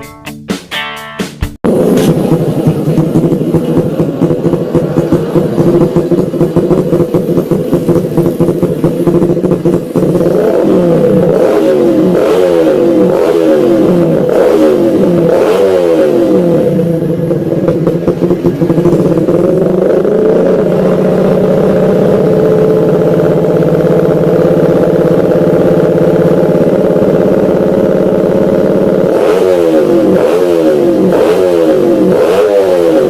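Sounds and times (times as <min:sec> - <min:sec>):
motorcycle engine idling and revving: 0:01.4 - 0:33.0.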